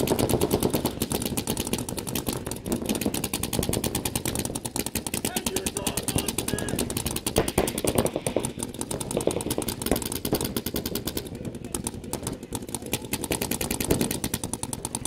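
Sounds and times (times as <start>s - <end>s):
paintball markers firing rapidly: 0.0s - 15.0s.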